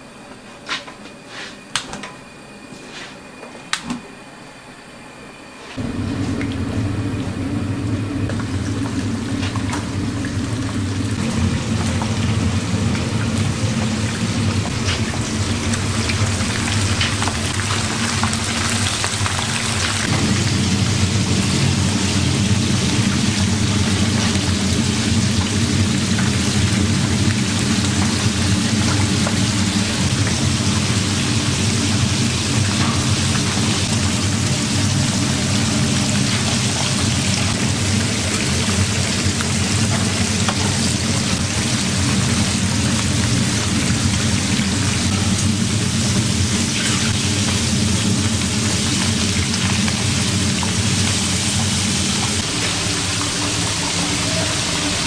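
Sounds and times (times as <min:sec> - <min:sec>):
low machine hum: 0:00.0 - 0:55.0
food sizzling in a pan: 0:08.3 - 0:55.0.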